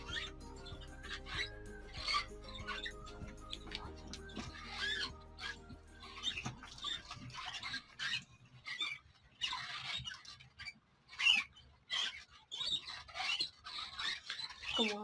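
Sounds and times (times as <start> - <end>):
wet hands squeaking on clay: 0.0 - 15.0.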